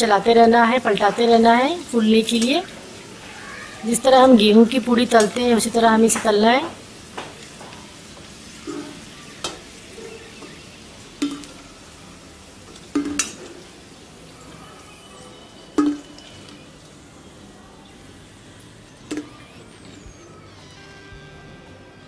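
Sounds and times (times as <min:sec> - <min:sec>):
puris sizzling in hot oil: 0:00.0 - 0:22.0.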